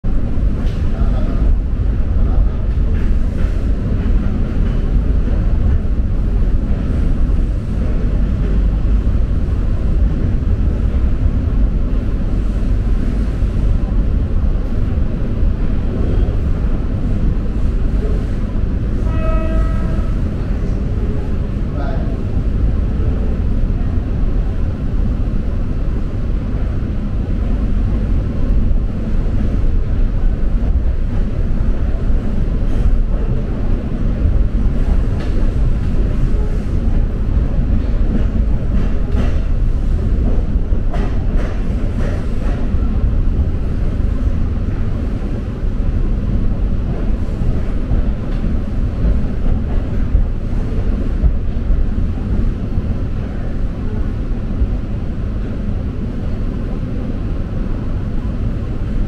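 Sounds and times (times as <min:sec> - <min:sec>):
train rumbling inside carriage: 0:00.0 - 0:59.0.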